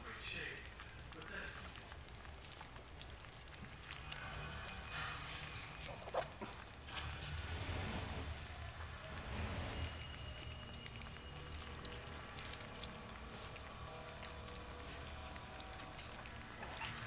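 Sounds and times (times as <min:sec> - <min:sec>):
puppies lapping liquid: 0:00.0 - 0:17.0
low steady rumble: 0:00.6 - 0:17.0.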